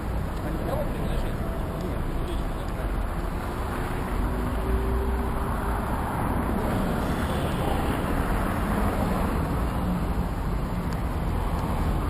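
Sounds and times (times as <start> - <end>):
vehicle and road noise: 0.0 - 12.0.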